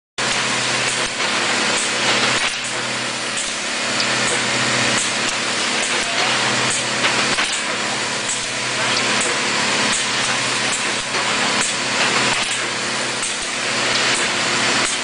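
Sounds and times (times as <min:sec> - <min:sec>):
industrial machinery hissing: 0:00.2 - 0:15.0
low machine hum: 0:00.2 - 0:15.0.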